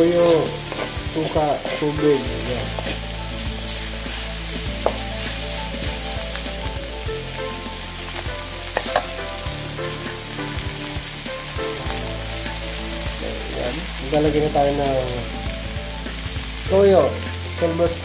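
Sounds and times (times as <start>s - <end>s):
food sizzling in a wok: 0.0s - 18.0s.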